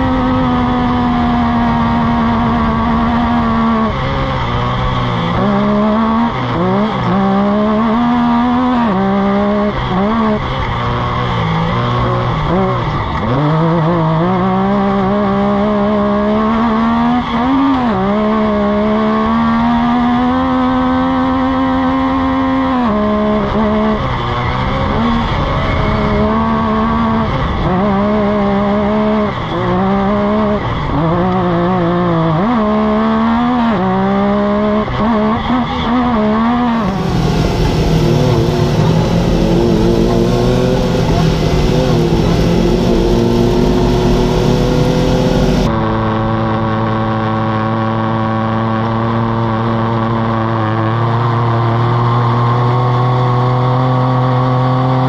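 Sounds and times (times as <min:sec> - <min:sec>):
other vehicles running close by: 0:00.0 - 0:55.0
racing engine revving: 0:00.0 - 0:55.0.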